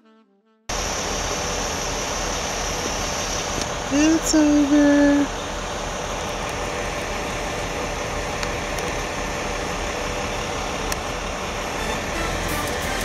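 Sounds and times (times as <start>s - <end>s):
car engine and road noise: 0.7s - 13.0s.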